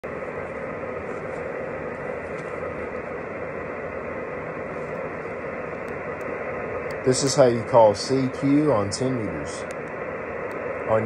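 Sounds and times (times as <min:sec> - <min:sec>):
radio static hiss: 0:00.1 - 0:11.0.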